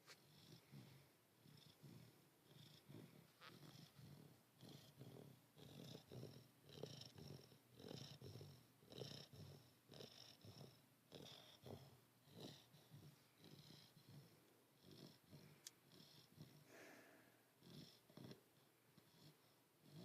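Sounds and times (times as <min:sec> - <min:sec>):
dog snoring with whistle: 0:00.2 - 0:16.9, 0:17.6 - 0:18.4, 0:19.0 - 0:20.0.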